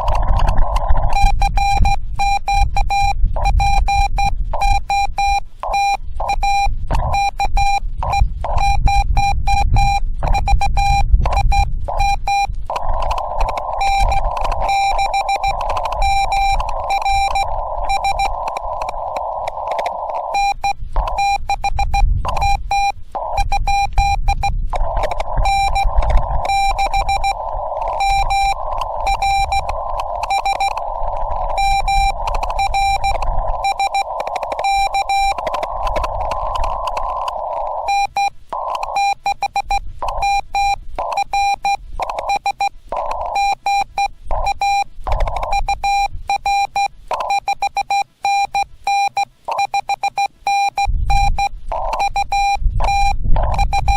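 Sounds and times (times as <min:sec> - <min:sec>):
radio hiss: 0:00.0 - 0:47.6, 0:48.7 - 0:53.9
morse code tone: 0:00.0 - 0:53.9.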